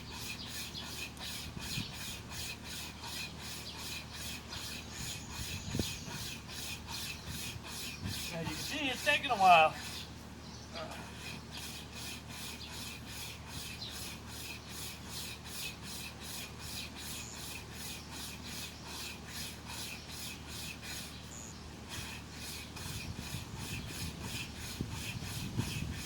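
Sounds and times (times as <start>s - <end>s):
wire saw rasping through branch: 0.0s - 10.3s, 10.9s - 26.0s.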